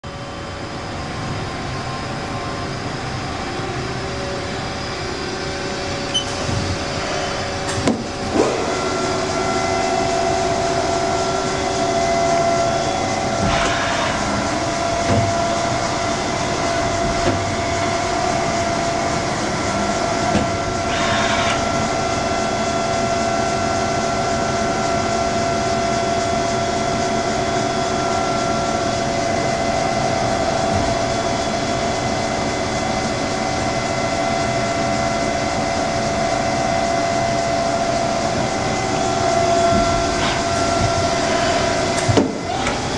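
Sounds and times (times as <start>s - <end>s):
lathe humming: 0.1s - 42.9s.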